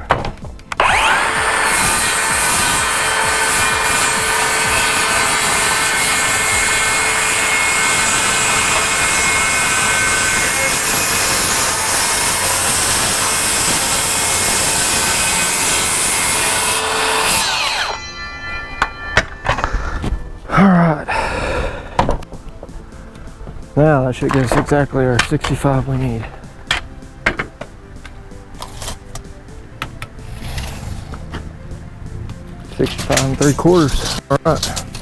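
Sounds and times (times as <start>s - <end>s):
circular saw cutting board: 0.0s - 35.0s.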